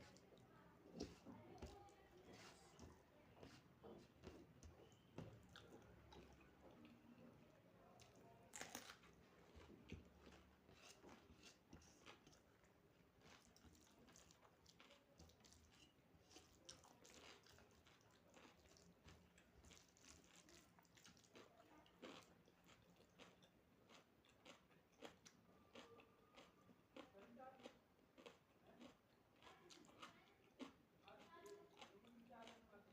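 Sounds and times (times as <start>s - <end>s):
person chewing food: 0.0s - 7.4s, 8.0s - 32.7s.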